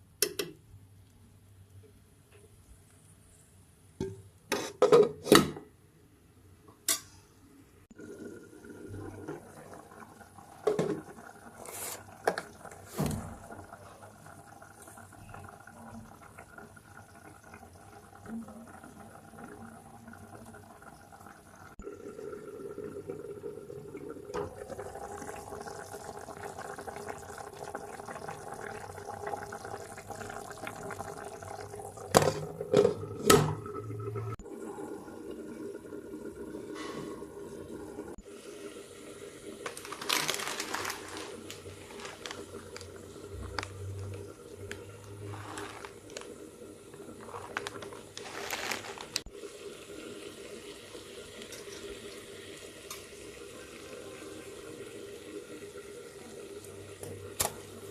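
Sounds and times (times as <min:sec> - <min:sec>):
water running into a sink: 0:08.0 - 0:57.9.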